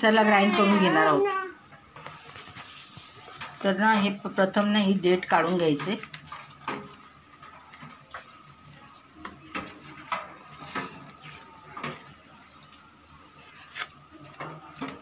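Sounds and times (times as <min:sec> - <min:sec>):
glass bangles clinking: 0:01.5 - 0:15.0.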